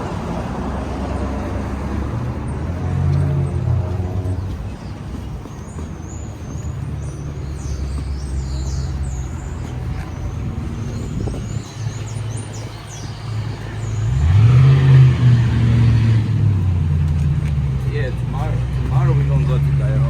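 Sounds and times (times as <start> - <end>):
traffic engines humming: 0.0 - 20.0
vehicle engine revving: 0.0 - 20.0.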